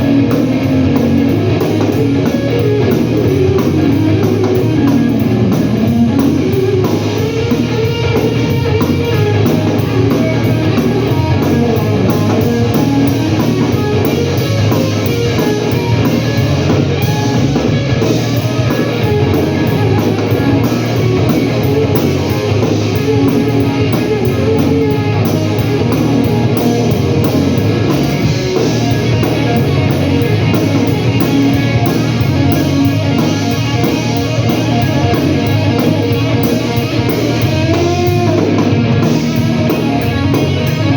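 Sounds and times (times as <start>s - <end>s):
drums: 0.0s - 40.9s
electric guitar: 0.0s - 40.9s.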